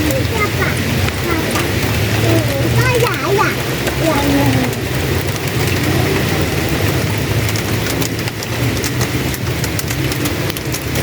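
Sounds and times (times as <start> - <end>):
heavy rain hissing: 0.0 - 11.0
raindrop ticks: 0.0 - 11.0.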